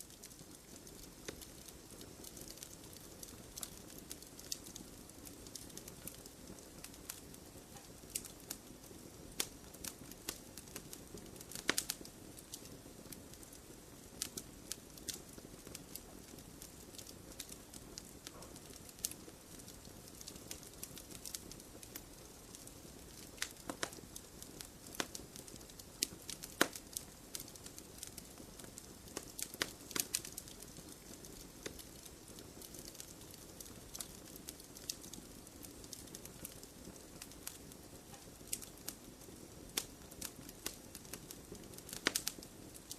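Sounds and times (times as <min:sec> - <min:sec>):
campfire crackling and popping: 0:00.0 - 0:42.9
fire burning: 0:00.0 - 0:42.9.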